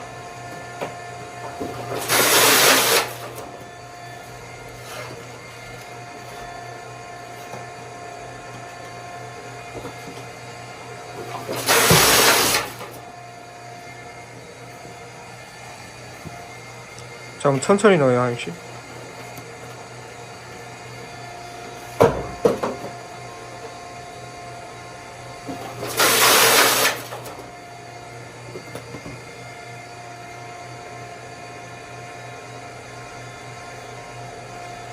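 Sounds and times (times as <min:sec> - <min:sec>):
machine hum and whine: 0:00.0 - 0:34.9.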